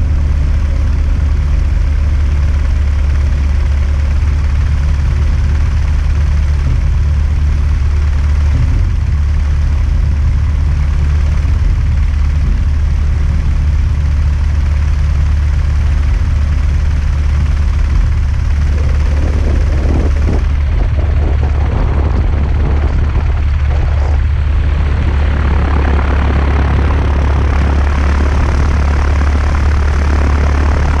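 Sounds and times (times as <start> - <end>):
light aircraft engine droning: 0.0 - 31.0.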